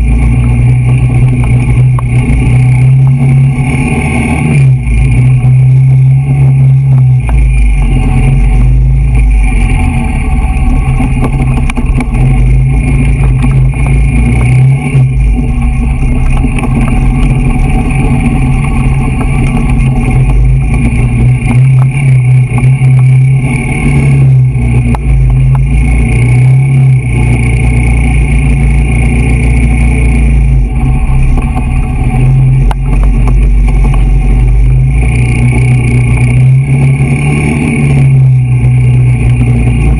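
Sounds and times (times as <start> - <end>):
quad bike engine running: 0.0 - 39.9
wind rumble on microphone: 0.0 - 39.9.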